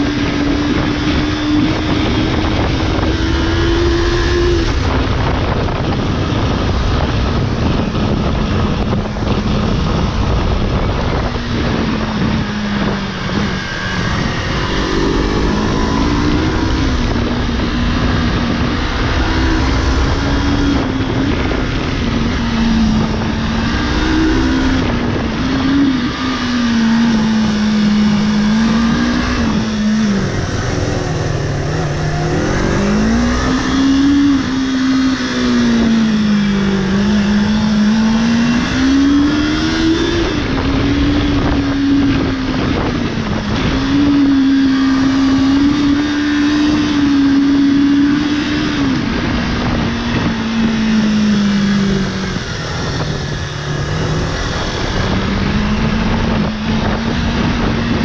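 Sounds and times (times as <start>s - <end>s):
motorcycle engine revving: 0.0s - 58.0s
road noise: 0.0s - 58.0s
wind: 0.0s - 58.0s.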